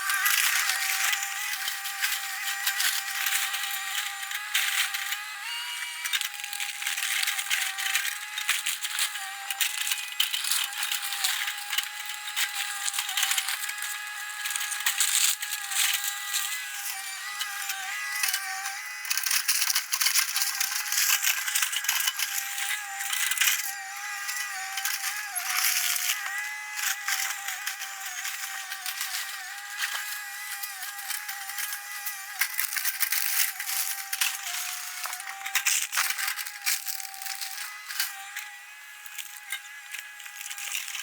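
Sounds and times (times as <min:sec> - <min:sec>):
excavator machine whine: 0:00.0 - 0:40.2.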